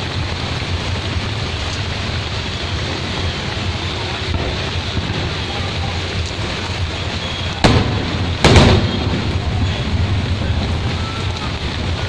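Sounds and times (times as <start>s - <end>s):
fireworks bursting: 0.0s - 12.0s
rain hiss: 0.0s - 12.0s
street noise: 0.0s - 12.0s.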